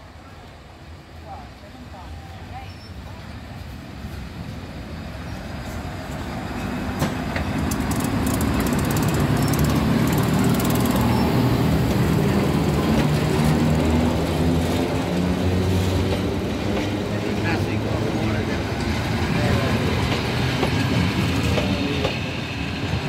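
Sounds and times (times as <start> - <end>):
electric locomotive hum: 0.1 - 23.0.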